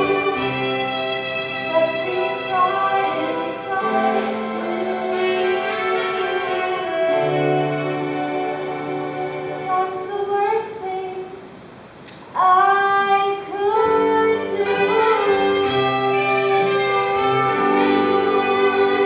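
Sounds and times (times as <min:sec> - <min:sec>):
woman singing: 0:00.0 - 0:08.8, 0:09.5 - 0:11.4, 0:12.3 - 0:19.0
instrumental accompaniment: 0:00.0 - 0:10.6, 0:13.6 - 0:19.0.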